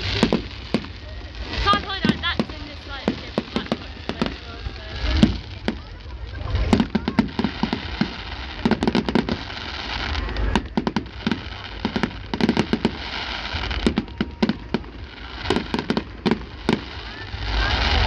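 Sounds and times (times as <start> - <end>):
firework bangs and crackles: 0.0 - 18.0.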